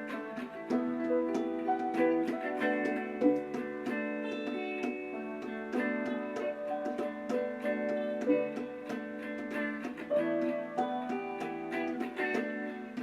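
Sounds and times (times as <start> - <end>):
gentle plucked guitar music: 0.0 - 13.0.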